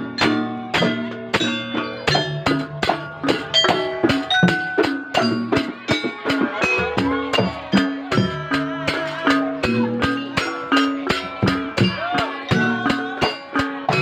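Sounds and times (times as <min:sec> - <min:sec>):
drum strikes: 0:00.0 - 0:14.0
plucked-string melody: 0:00.0 - 0:14.0.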